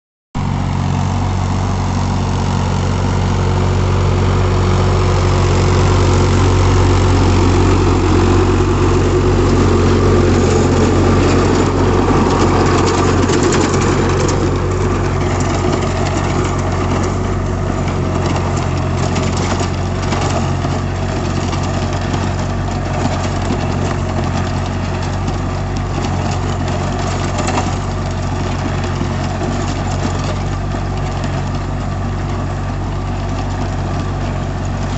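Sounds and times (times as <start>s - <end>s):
tractor diesel engine under load: 0.4s - 34.9s.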